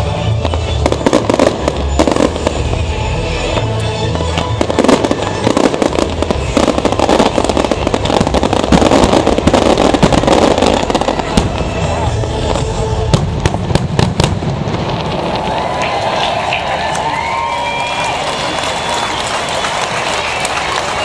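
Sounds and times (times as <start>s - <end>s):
fireworks crackling and banging: 0.0s - 21.0s
music playing: 0.0s - 21.0s.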